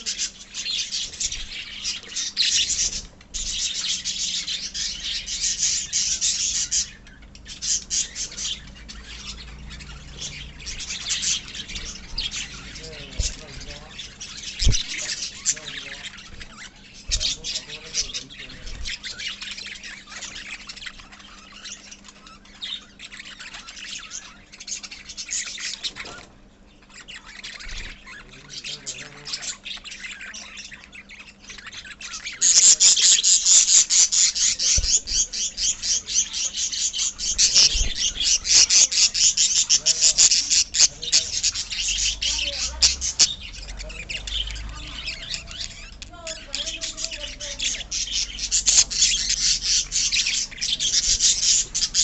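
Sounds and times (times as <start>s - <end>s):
birds chirping and chattering: 0.0s - 52.0s.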